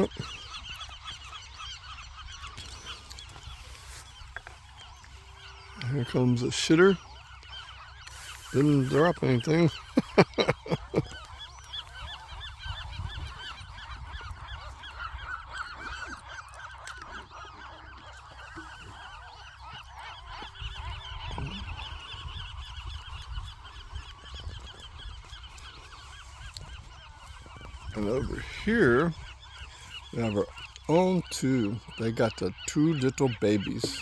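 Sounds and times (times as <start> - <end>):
gulls calling: 0.0 - 34.0.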